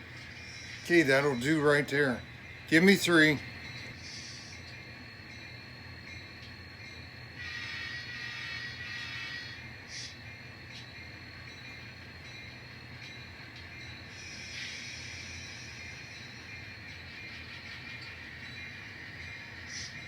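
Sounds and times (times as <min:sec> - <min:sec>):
model train motor humming: 0:00.0 - 0:05.5, 0:06.8 - 0:10.2, 0:10.8 - 0:20.0.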